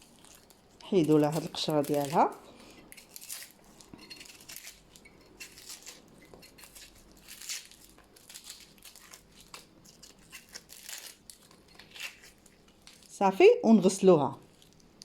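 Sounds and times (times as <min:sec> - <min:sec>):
onion skin crinkling: 0:00.0 - 0:13.2, 0:14.4 - 0:15.0.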